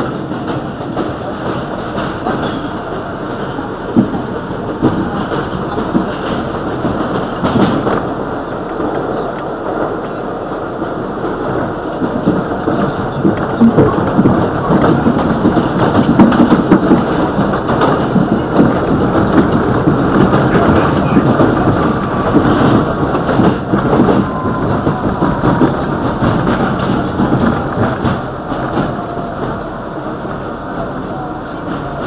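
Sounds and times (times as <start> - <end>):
subway train rumble: 0.0 - 32.0
wheels clattering over rails: 0.0 - 32.0.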